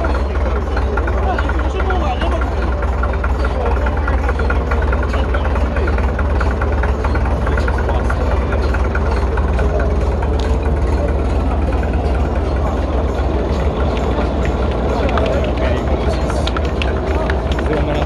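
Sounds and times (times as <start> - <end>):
light rhythmic ticking: 0.0 - 18.0
tractor engine running: 0.0 - 18.0.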